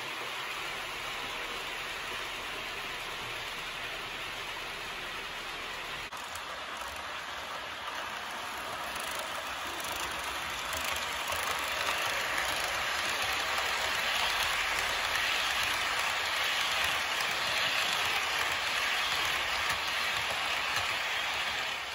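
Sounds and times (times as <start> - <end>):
model train wheels rolling on rails: 0.0 - 21.9.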